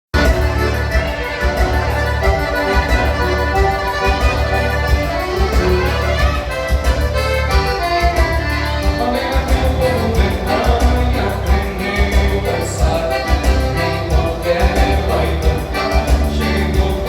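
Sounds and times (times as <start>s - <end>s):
music with pulsing bass beat: 0.1s - 17.0s.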